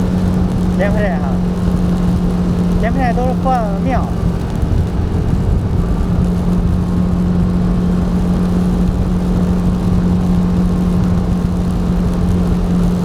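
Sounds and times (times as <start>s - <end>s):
low road rumble: 0.0s - 13.0s
vehicle engine drone: 0.0s - 13.0s.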